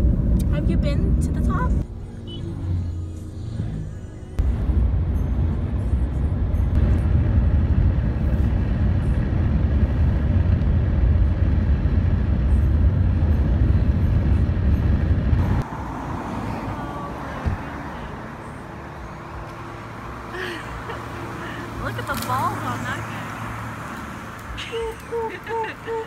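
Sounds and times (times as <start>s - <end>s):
road and wind noise inside car: 0.0s - 26.0s.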